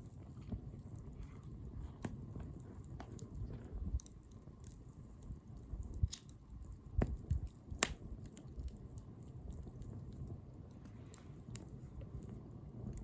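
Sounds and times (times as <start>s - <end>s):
sharp fire pops: 0.0s - 13.0s
wood bonfire crackling: 0.0s - 13.0s.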